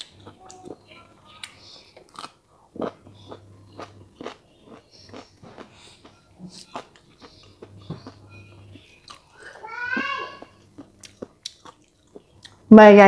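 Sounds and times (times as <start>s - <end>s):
crunching and chewing cucumber: 1.4s - 9.6s, 10.4s - 12.7s.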